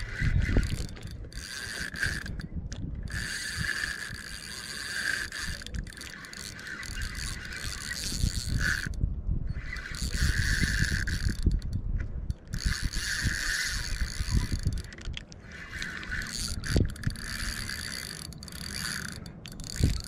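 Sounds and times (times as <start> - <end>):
fishing reel whirring: 0.0 - 20.0.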